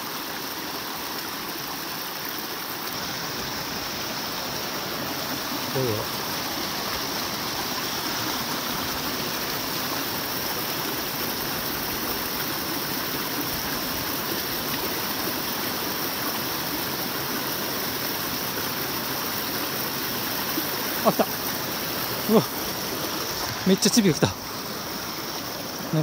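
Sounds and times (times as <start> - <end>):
stream cascading over rocks: 0.0 - 26.0.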